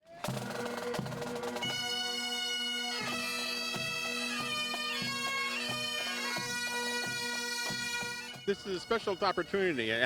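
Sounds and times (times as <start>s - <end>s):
drums beating: 0.2s - 2.2s, 3.0s - 10.0s
bagpipes playing over drone: 0.2s - 10.0s.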